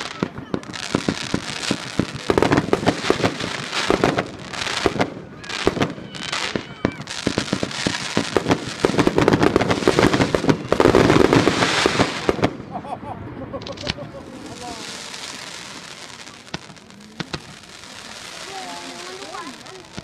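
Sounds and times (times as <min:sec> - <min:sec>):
firecrackers banging and crackling: 0:00.0 - 0:12.9, 0:13.6 - 0:20.0.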